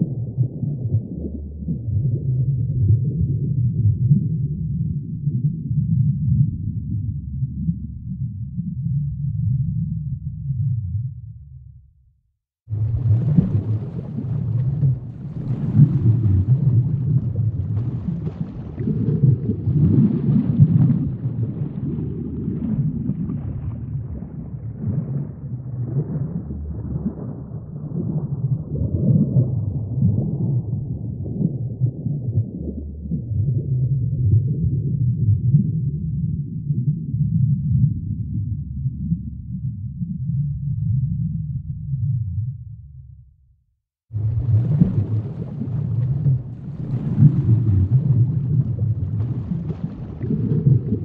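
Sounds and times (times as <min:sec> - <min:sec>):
muffled underwater rumble: 0:00.0 - 0:12.0, 0:12.6 - 0:51.0.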